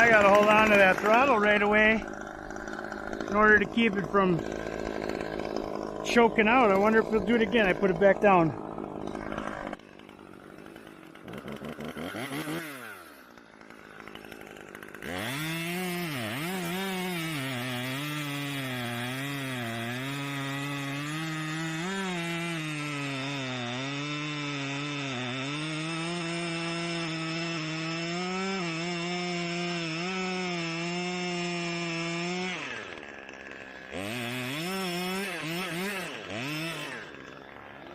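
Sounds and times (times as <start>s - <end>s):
chainsaw revving: 0.0s - 37.9s.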